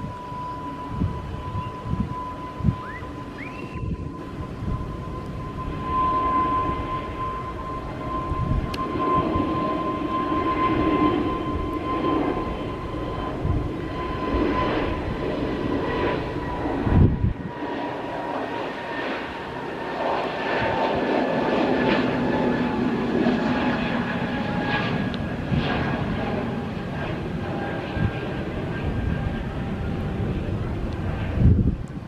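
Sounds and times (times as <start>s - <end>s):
jet engines whining and rumbling: 0.0s - 32.0s
wind buffeting microphone: 0.0s - 32.0s.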